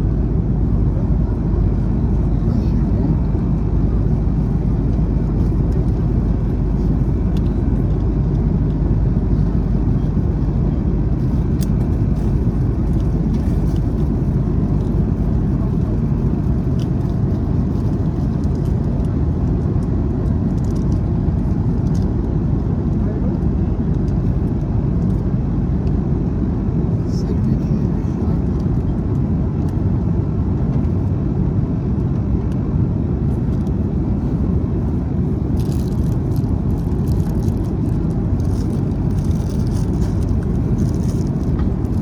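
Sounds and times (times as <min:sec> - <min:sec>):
vehicle interior rumble: 0:00.0 - 0:42.0.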